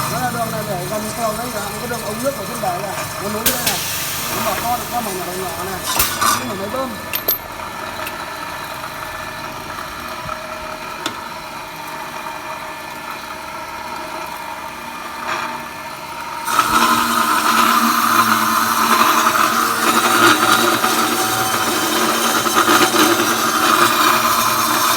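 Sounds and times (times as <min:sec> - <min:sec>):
pipe-cutting machine humming: 0:00.0 - 0:24.9.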